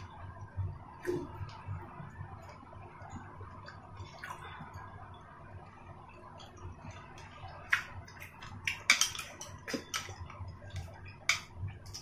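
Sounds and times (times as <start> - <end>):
faint eating sounds: 0.0 - 12.0.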